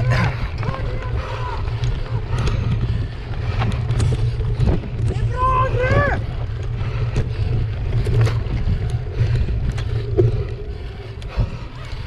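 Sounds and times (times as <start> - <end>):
bike clicks and rattles: 0.0 - 12.0
low wind rumble: 0.0 - 12.0.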